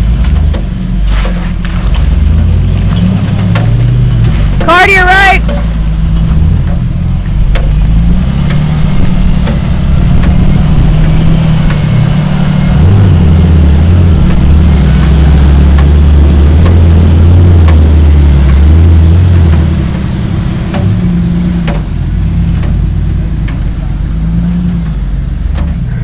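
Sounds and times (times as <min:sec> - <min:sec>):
engine running under load: 0:00.0 - 0:26.0.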